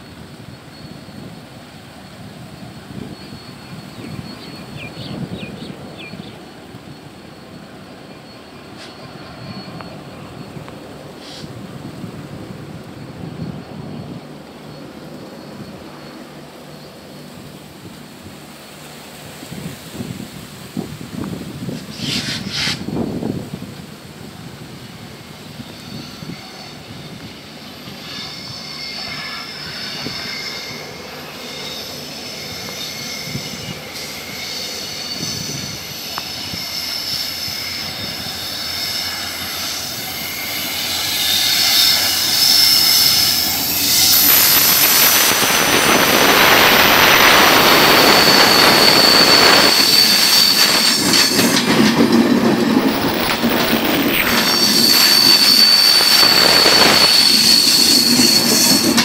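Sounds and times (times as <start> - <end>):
train running past: 0.0 - 59.0
wheels squealing on rails: 0.0 - 59.0.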